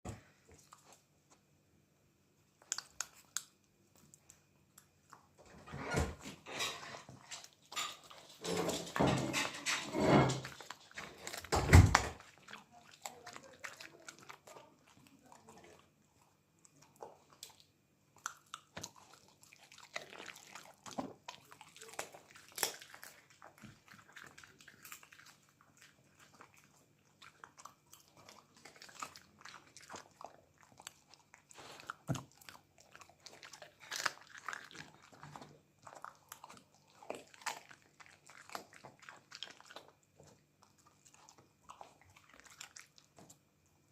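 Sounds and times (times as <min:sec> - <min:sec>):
dog chewing and crunching: 0:00.1 - 0:01.6, 0:02.4 - 0:43.9.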